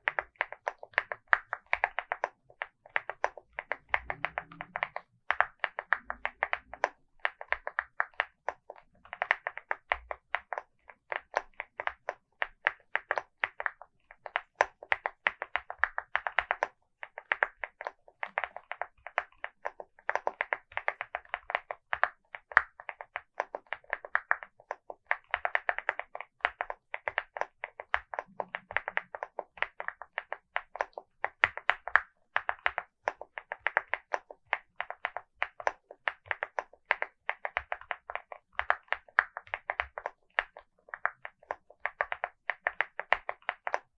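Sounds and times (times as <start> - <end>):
mechanical keyboard typing: 0.0 - 43.9.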